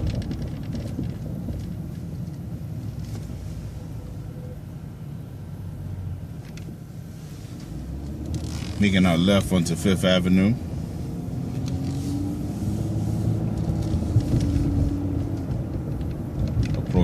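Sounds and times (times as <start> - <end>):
bus engine low rumble: 0.0 - 17.0.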